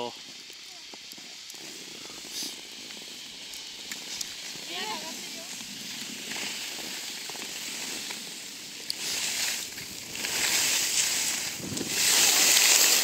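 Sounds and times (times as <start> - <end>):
skis scraping on snow: 0.0 - 13.0.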